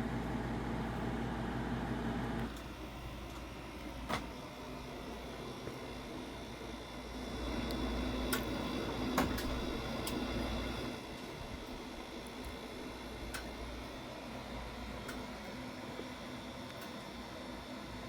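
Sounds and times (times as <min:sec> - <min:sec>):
air conditioners humming: 0:00.0 - 0:18.0.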